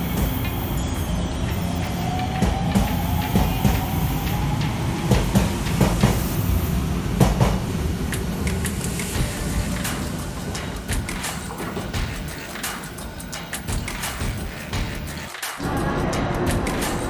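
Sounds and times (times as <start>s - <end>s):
train rumble: 0.0s - 17.0s
train wheels clacking: 0.0s - 17.0s.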